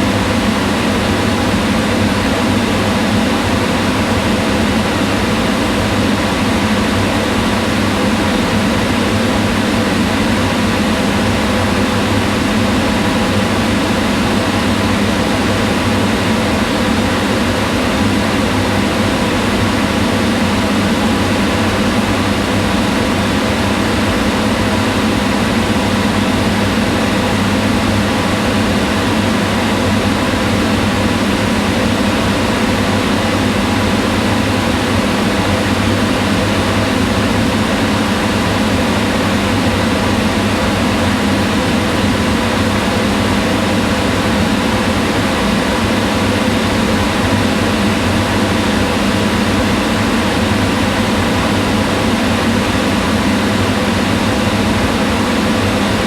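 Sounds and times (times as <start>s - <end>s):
range hood exhaust fan running: 0.0s - 56.0s.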